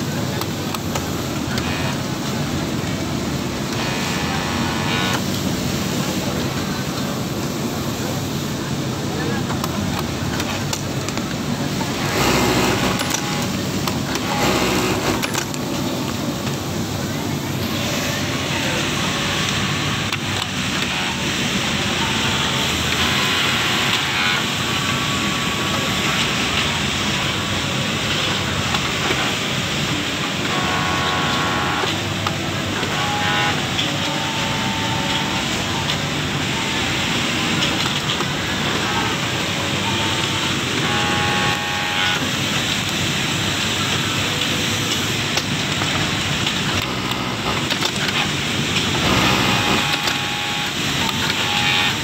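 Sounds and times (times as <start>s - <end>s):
industrial sewing machines running: 0.0s - 52.0s
workers' voices: 0.0s - 52.0s.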